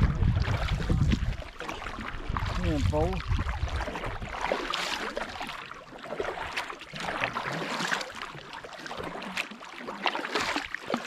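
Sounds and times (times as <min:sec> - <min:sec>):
kayak paddle splashing: 0:00.0 - 0:11.0
water dripping off paddle: 0:00.3 - 0:11.0.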